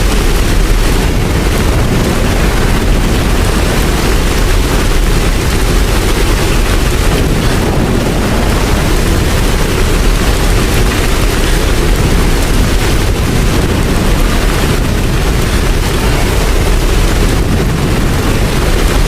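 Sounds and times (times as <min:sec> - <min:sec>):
deep continuous rumble: 0:00.0 - 0:19.0
steady rain falling: 0:00.0 - 0:19.0.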